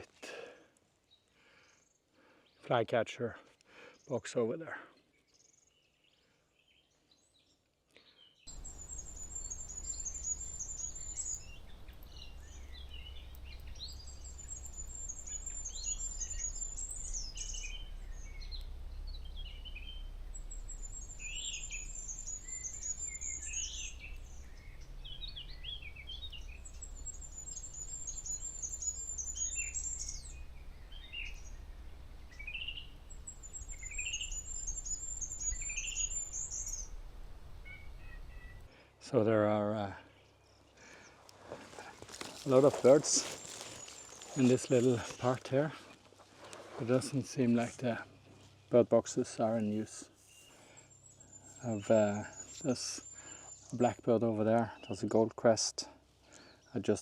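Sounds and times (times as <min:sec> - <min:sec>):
lower birdsong phrases: 0:00.0 - 0:57.0
thin high birdsong: 0:06.7 - 0:38.8, 0:40.1 - 0:55.2.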